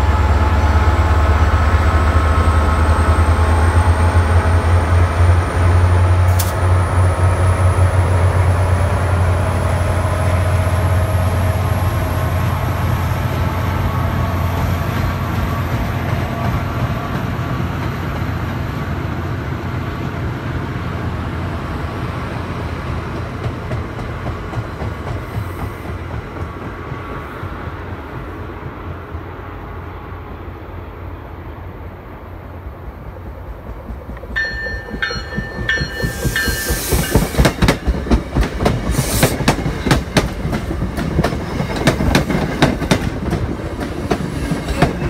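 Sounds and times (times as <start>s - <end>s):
train wheels clacking on rails: 0.0s - 20.3s, 22.8s - 29.2s, 33.6s - 45.0s
locomotive engine drone: 0.0s - 41.9s.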